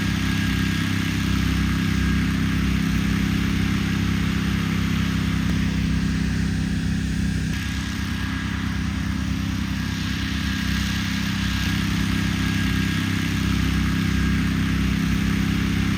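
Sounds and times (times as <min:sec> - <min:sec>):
car engine running: 0:00.1 - 0:15.9.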